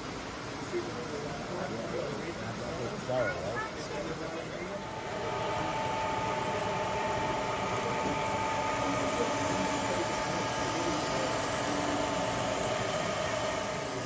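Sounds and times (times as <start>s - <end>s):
model train whirring: 0.0s - 14.0s.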